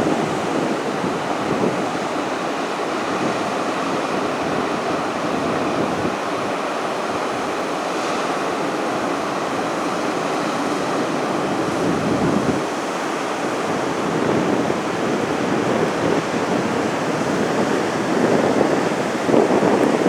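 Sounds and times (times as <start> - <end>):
wind on microphone: 0.0 - 6.6, 9.6 - 20.0.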